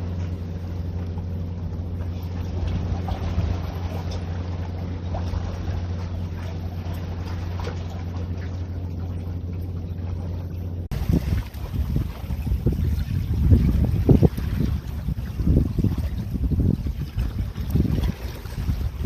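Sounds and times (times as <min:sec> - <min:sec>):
low motor drone: 0:00.0 - 0:19.0
wash of noise: 0:00.0 - 0:19.0.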